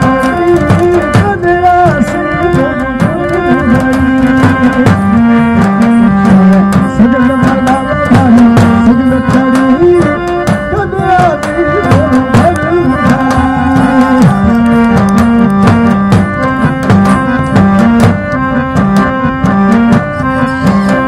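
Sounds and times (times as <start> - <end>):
fast barrel drum beats: 0.0 - 21.0
sliding folk melody: 0.0 - 21.0.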